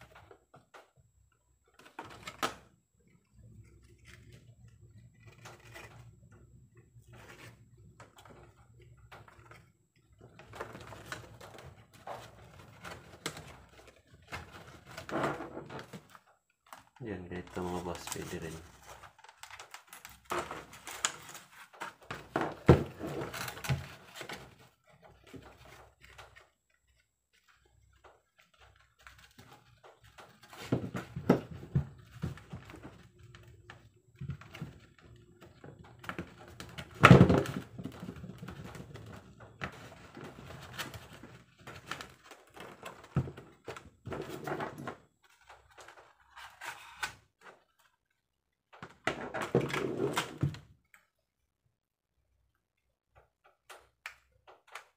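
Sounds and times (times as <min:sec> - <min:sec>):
handling plastic helmet and strap: 0:01.6 - 0:51.2.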